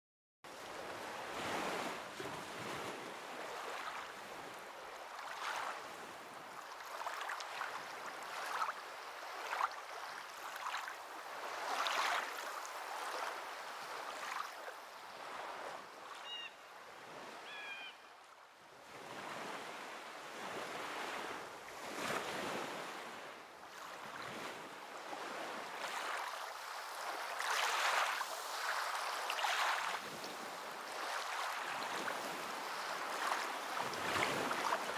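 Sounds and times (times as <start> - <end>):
small waves washing: 0.6 - 16.3, 18.8 - 34.9.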